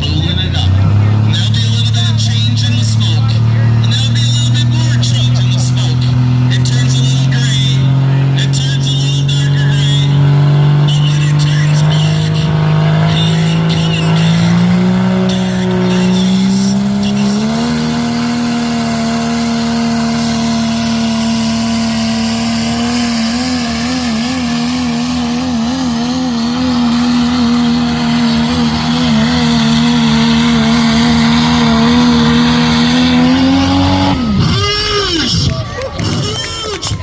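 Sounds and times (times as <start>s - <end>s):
diesel truck engine at high revs: 0.0s - 37.0s.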